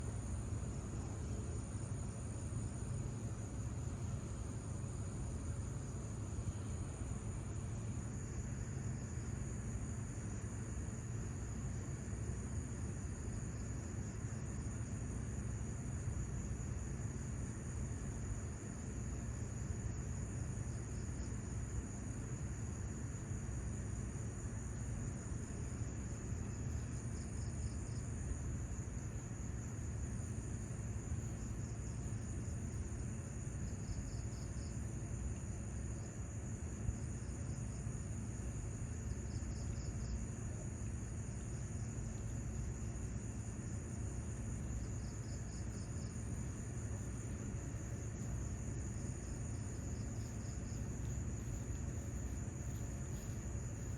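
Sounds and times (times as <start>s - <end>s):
insect pulsed trill: 0.0s - 53.9s
insects buzzing: 0.0s - 53.9s
low steady rumble: 0.0s - 53.9s.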